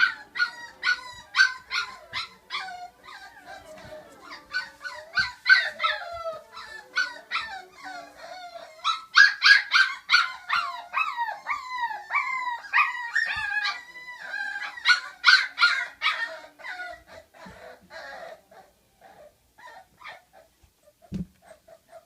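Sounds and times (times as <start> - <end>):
puppies whining and yipping: 0.0 - 22.0.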